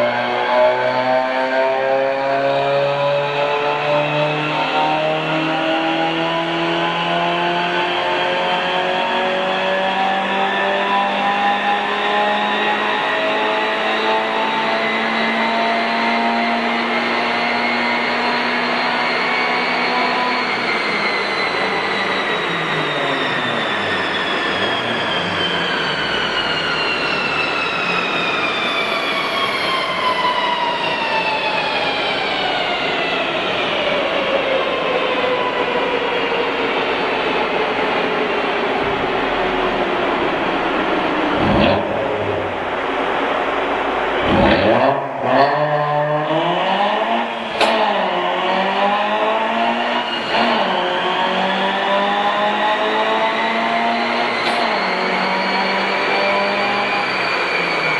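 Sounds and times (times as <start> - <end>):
car engine revving on dynamometer: 0.0 - 33.7, 38.3 - 57.9
descending whine of rollers: 0.0 - 57.9.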